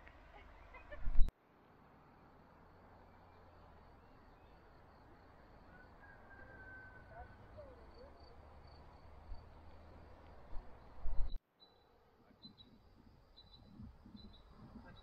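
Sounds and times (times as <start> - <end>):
distant bird calls: 2.9 - 15.0.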